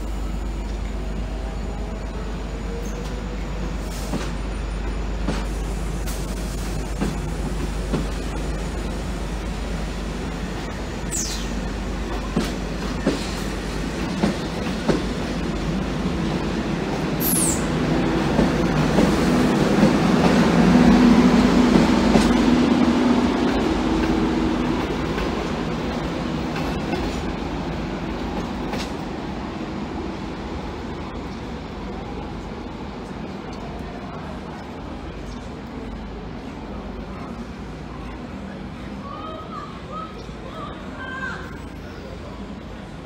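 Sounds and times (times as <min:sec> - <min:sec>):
train carriages rolling on rails: 0:00.0 - 0:43.0.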